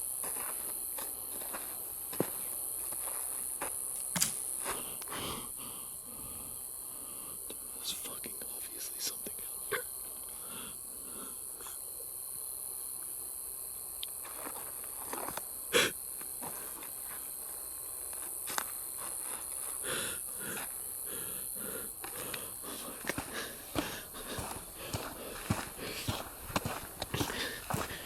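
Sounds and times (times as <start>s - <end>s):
night insects chorus: 0.0s - 28.0s.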